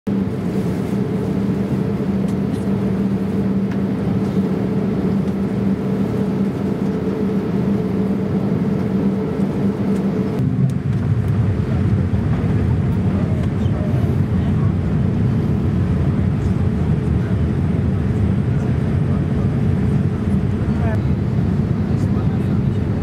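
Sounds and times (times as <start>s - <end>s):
aircraft cabin engine rush: 0.1s - 23.0s
low steady hum: 0.1s - 23.0s.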